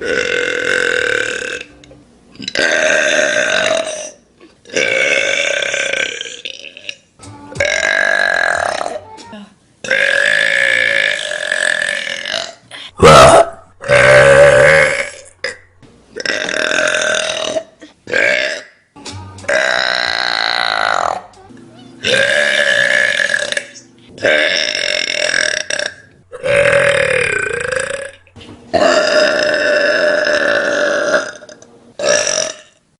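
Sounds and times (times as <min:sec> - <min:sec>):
person burping: 0:00.0 - 0:01.7, 0:02.4 - 0:07.0, 0:09.9 - 0:18.7, 0:19.5 - 0:21.2, 0:22.0 - 0:32.8.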